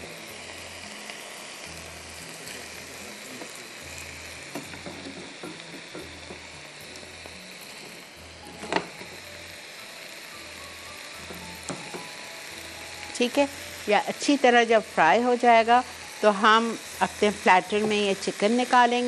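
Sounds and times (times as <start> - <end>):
chicken sizzling in pan: 0.0 - 19.0.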